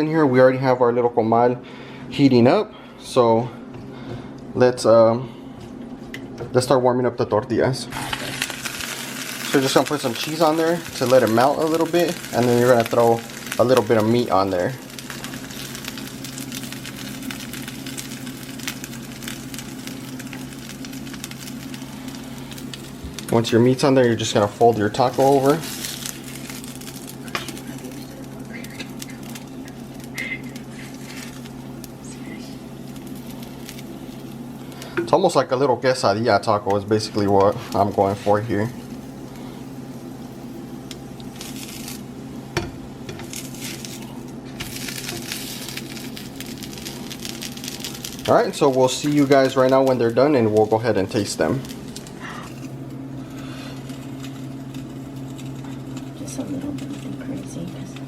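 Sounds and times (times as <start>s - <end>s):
steady low hum: 0.0s - 58.0s
tortillas sizzling on a griddle: 8.0s - 35.0s, 37.1s - 58.0s.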